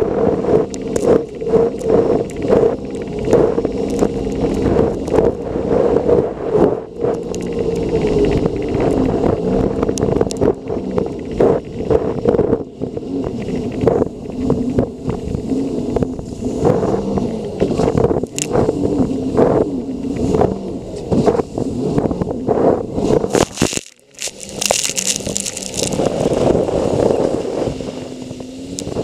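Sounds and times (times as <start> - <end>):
watercraft engine running: 0.0 - 29.0.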